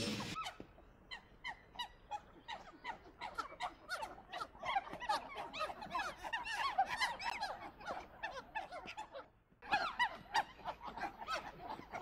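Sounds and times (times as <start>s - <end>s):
monkeys squeaking: 0.1s - 12.0s.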